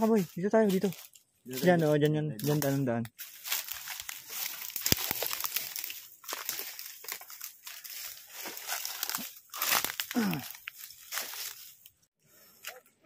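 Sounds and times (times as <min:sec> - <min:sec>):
footsteps through dry leaves: 0:00.0 - 0:12.1.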